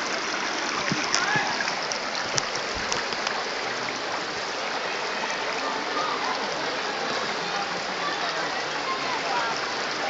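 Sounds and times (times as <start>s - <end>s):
stream water rushing over stones: 0.0s - 10.0s.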